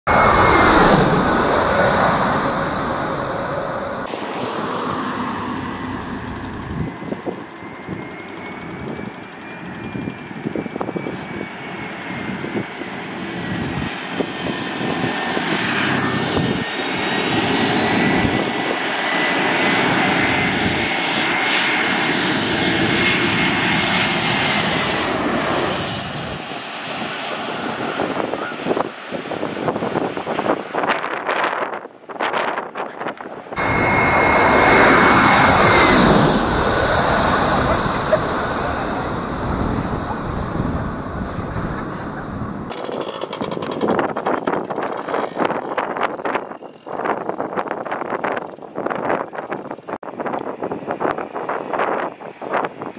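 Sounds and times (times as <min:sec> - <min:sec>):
jet engines with high whine: 0:00.1 - 0:52.9.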